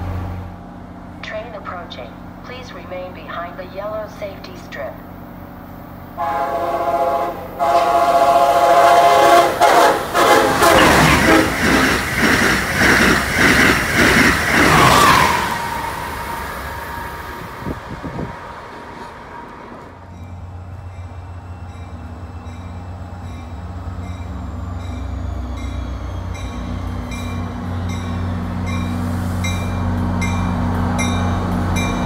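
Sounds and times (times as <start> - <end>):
diesel locomotive engine drone: 0.0 - 32.0
high-speed train rushing past: 0.0 - 32.0.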